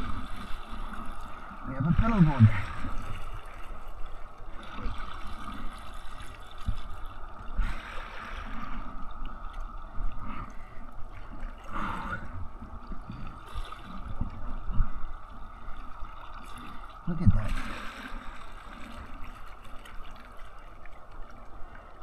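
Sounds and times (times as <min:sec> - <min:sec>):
water lapping against kayak hull: 0:00.0 - 0:22.0
water splashes: 0:00.0 - 0:22.0.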